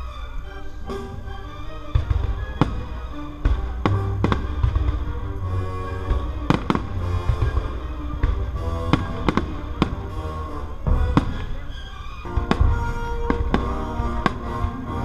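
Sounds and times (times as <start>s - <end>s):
orchestral music: 0.0s - 15.0s
fireworks bursting with sharp bangs: 0.9s - 15.0s.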